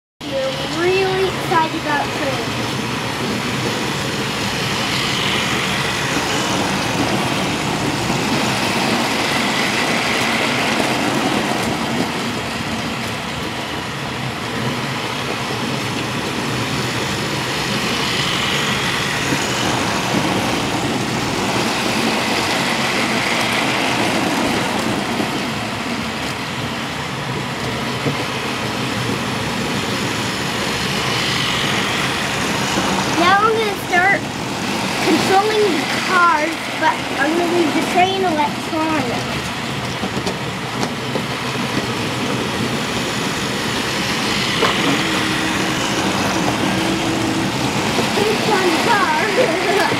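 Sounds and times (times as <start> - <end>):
wheels rattling on rails: 0.2 - 49.9.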